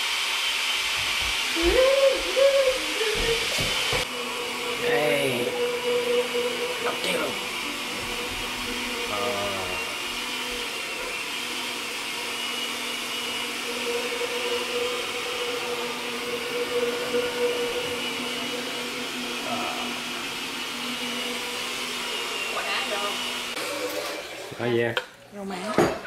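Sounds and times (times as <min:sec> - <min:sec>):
motor humming: 0:01.0 - 0:24.5.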